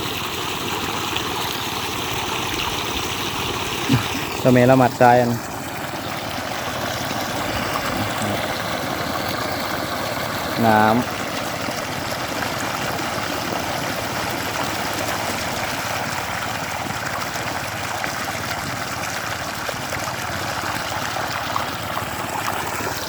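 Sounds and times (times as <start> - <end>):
water gushing from a pipe: 0.0 - 23.0.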